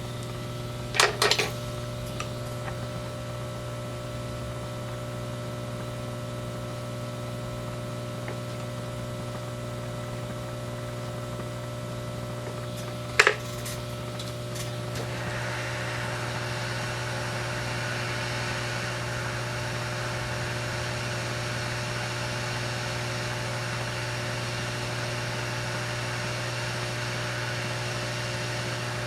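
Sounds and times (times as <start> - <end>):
electrical equipment hum: 0.0 - 29.0.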